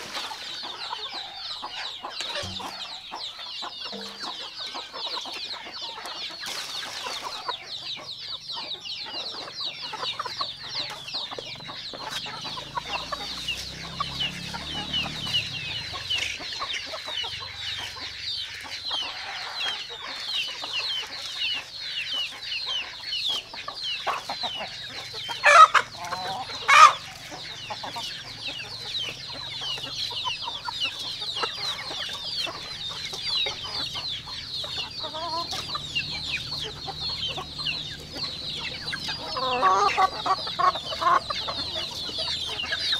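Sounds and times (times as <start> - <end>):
chickens chirping: 0.0 - 42.9
loud chicken calls: 0.0 - 42.9.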